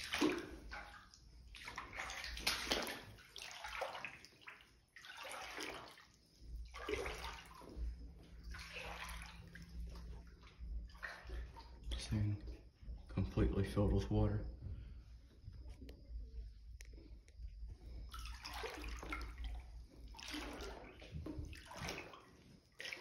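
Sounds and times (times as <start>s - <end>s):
feet wading through water: 0.0s - 13.4s, 17.6s - 23.0s.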